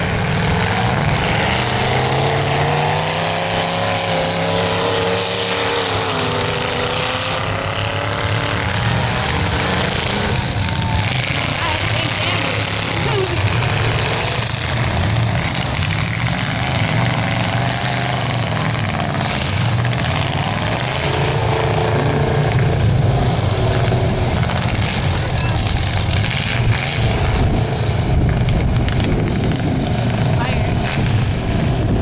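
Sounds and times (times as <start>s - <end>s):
car engine running at high revs: 0.0s - 32.0s
wheels spinning in mud: 0.0s - 32.0s.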